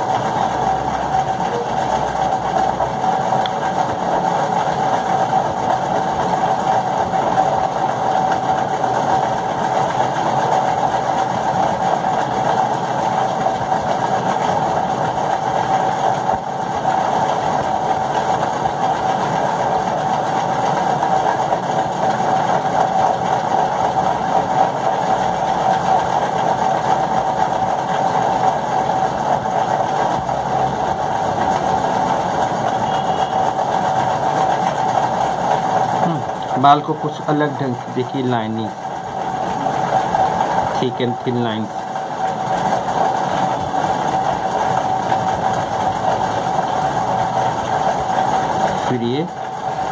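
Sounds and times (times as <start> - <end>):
steady mechanical hum: 0.0 - 49.9.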